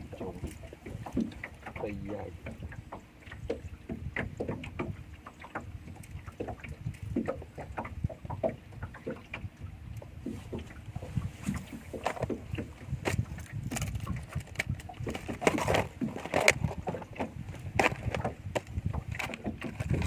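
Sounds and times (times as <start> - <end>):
low rumbling background: 0.0 - 20.0
water slapping against boat hull: 0.0 - 20.0.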